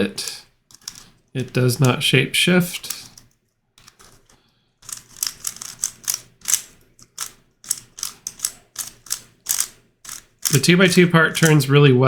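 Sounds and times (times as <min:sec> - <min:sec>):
plastic puzzle clacking: 0:00.0 - 0:11.7.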